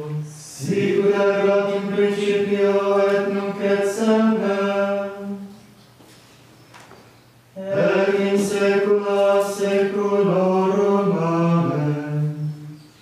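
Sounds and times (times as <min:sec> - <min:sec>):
men chanting plainchant: 0:00.0 - 0:05.5, 0:07.6 - 0:12.6.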